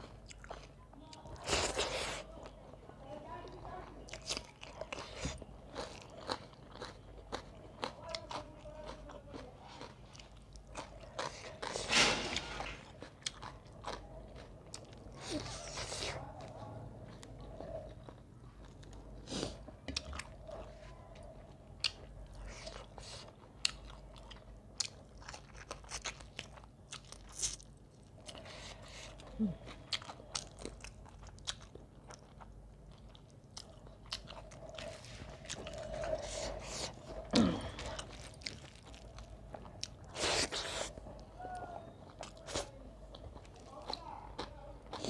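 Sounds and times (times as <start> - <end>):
close chewing and mouth clicks: 0.0 - 2.8, 3.4 - 45.0.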